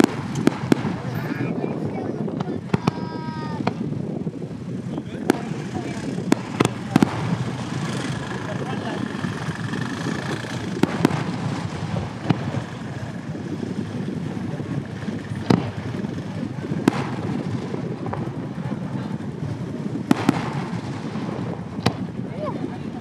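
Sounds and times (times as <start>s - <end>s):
firework shells bursting: 0.0s - 4.0s, 5.2s - 22.3s.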